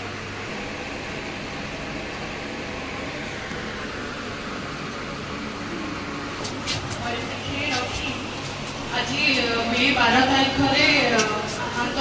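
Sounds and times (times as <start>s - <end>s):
fans rushing in a large hall: 0.0s - 12.0s.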